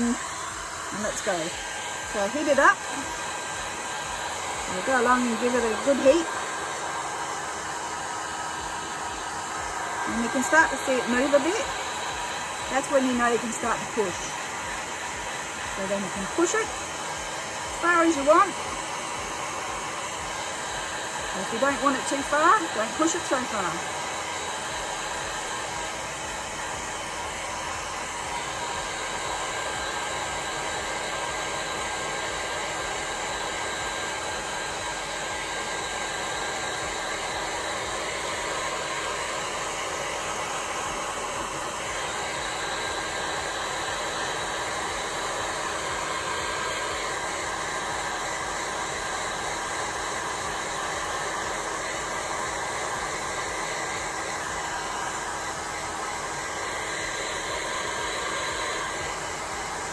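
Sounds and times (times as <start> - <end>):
heat gun blowing: 0.0 - 59.9.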